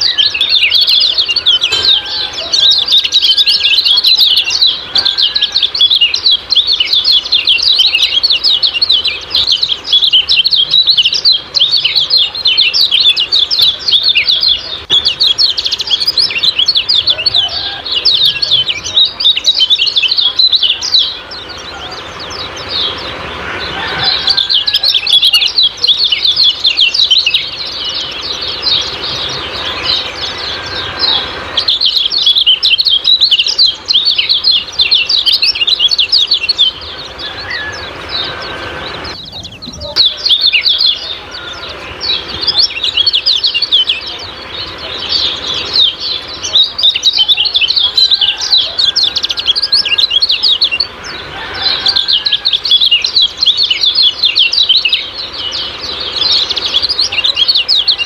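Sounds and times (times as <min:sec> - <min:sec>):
birds chirping rapidly: 0:00.0 - 0:58.0.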